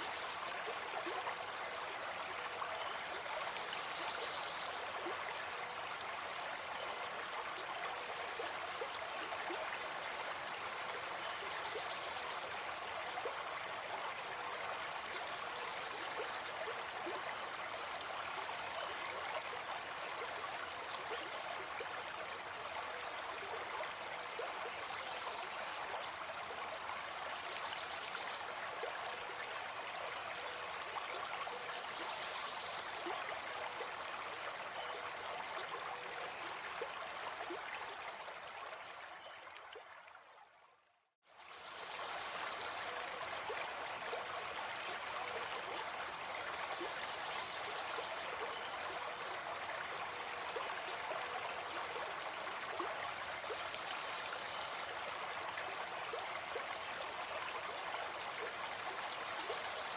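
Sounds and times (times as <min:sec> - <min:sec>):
forest stream flowing: 0:00.0 - 0:59.9.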